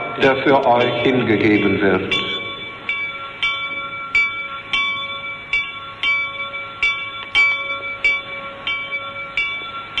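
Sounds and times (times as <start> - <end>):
bright bell strikes: 0.0 - 10.0.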